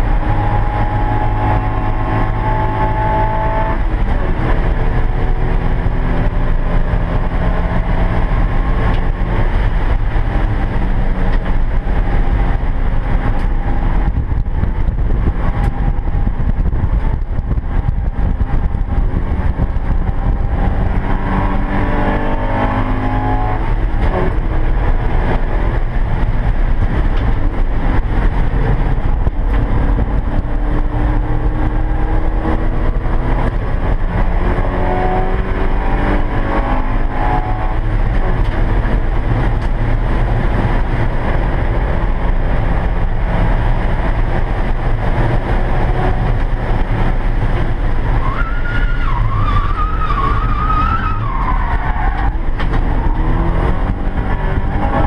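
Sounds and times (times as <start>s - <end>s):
race car engine: 0.0s - 55.0s
road and wind noise: 0.0s - 55.0s.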